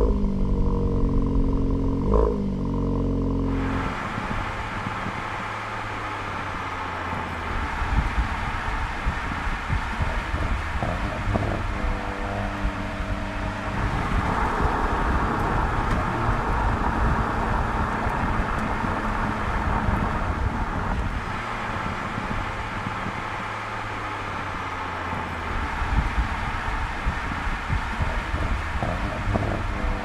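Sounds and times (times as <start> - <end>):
car engine and exhaust: 0.0 - 30.0
tyre noise: 3.5 - 30.0
wind noise: 3.5 - 30.0.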